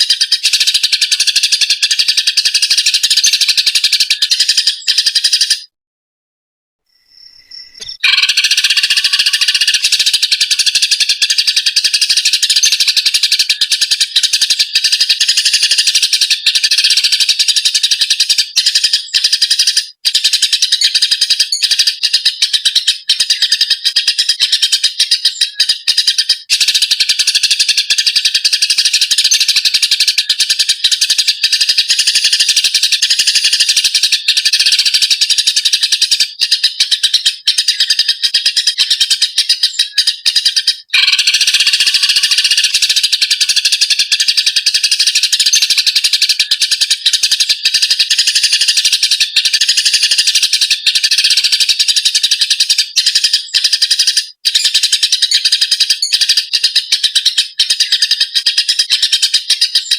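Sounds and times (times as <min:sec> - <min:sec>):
sparrows chirping rapidly: 0:00.0 - 0:05.7, 0:06.9 - 0:59.9.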